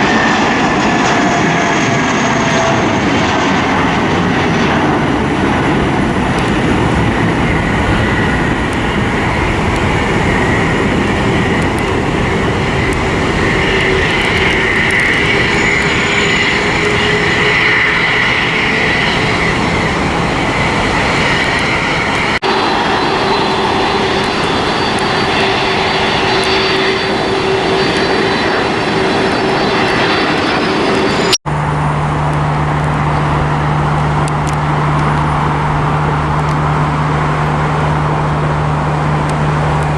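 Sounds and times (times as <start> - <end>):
high whining tone: 0.0 - 39.9
jet engines running: 0.0 - 39.9.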